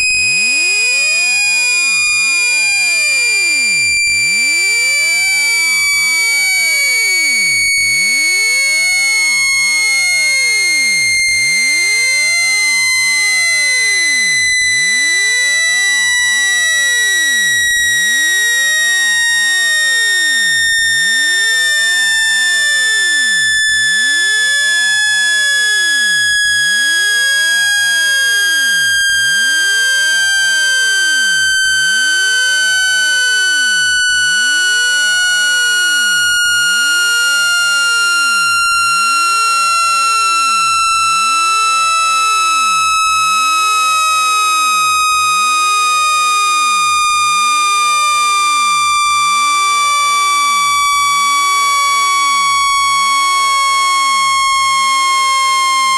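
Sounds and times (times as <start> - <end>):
high tone gliding down in pitch: 2.6 - 55.9.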